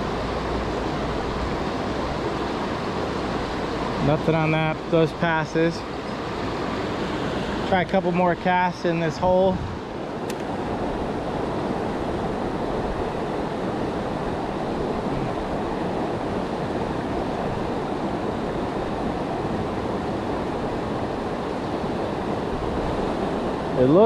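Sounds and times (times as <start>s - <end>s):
creek rushing: 0.0s - 24.0s.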